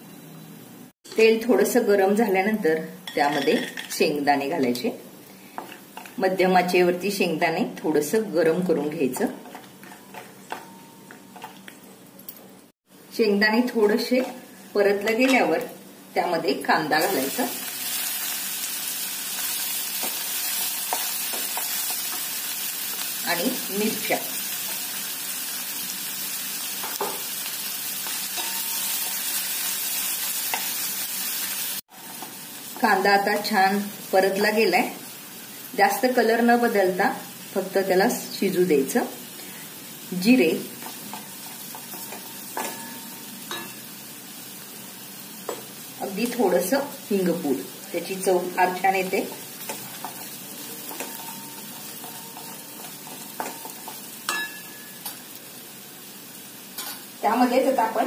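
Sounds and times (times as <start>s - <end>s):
onions sizzling in hot oil: 1.1s - 11.6s, 12.8s - 58.0s.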